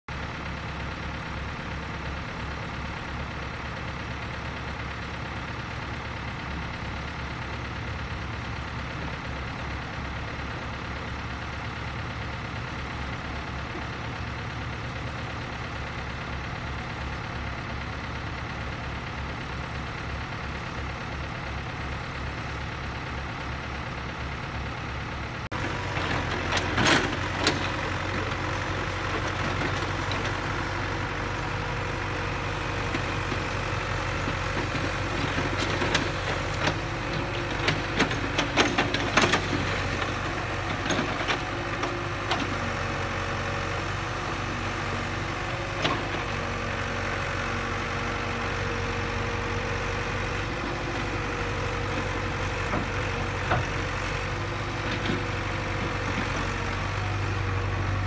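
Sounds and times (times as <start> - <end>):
excavator diesel engine idling: 0.1 - 58.0.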